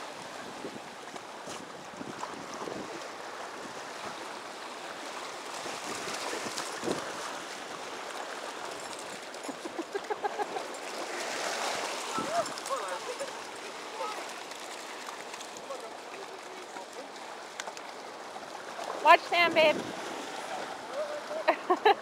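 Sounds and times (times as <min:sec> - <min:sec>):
small waves washing in: 0:00.0 - 0:22.0.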